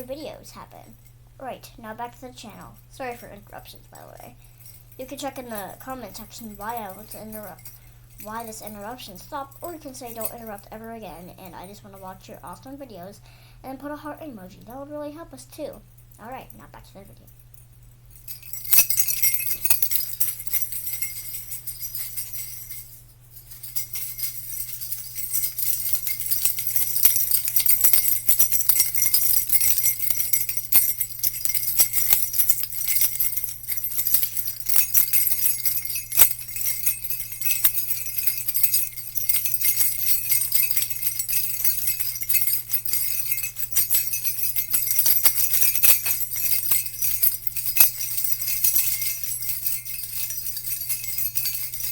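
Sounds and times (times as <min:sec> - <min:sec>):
steady low hum: 0:00.0 - 0:51.9
jingle bells shaken: 0:02.2 - 0:13.2, 0:13.8 - 0:51.9.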